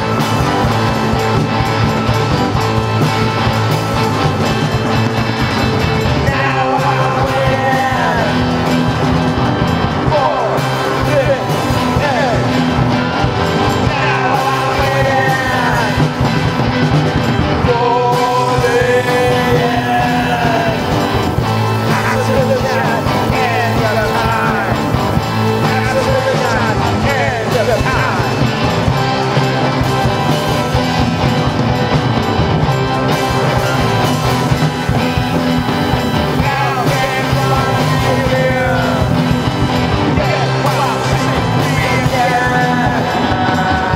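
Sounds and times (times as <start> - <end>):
punk rock band playing: 0.0 - 43.9.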